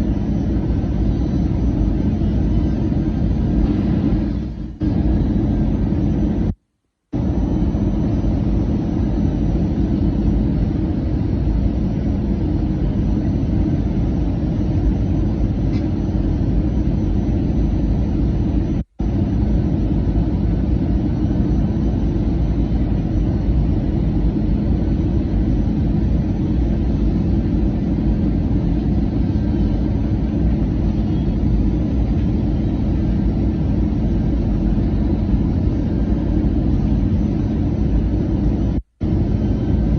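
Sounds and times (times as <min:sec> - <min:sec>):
airplane engines rumbling in cabin: 0:00.0 - 0:39.9
faint steady hum: 0:00.0 - 0:39.9.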